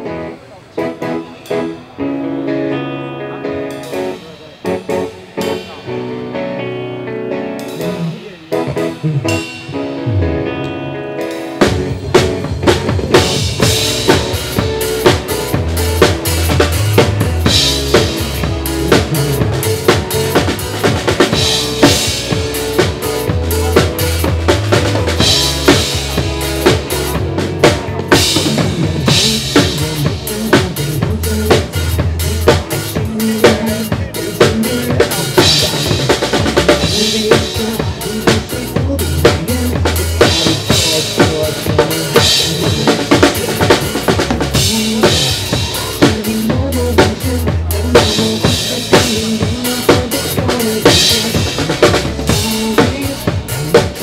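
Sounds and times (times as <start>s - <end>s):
drum kit playing a groove: 0.0s - 54.0s
pop backing track: 0.0s - 54.0s.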